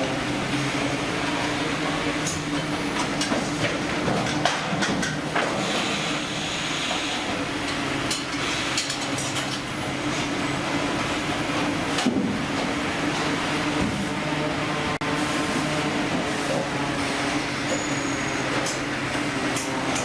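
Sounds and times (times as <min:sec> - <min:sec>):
steady mechanical drone: 0:00.0 - 0:20.0.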